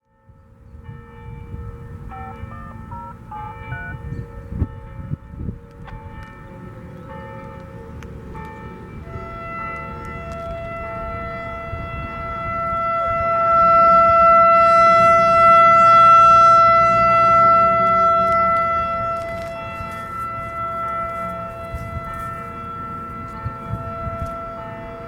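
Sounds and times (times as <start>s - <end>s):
warning siren steady tone: 0.3s - 25.0s.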